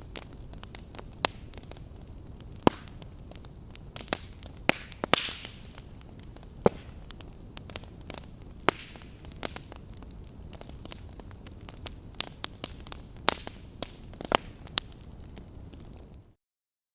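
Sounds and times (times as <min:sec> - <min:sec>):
campfire crackling and popping: 0:00.0 - 0:16.4.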